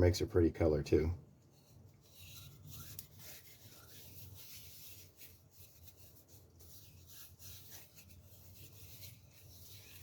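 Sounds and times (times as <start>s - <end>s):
rubbing strokes on wooden spoon: 1.5s - 10.0s.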